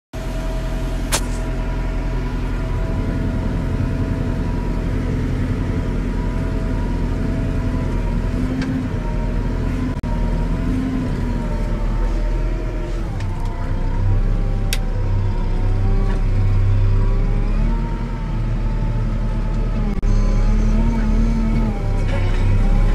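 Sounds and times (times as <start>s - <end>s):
tractor diesel engine running: 0.2s - 22.9s.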